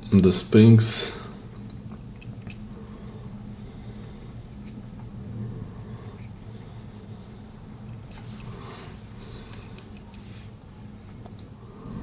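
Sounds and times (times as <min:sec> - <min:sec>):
low hum: 0:00.8 - 0:12.0.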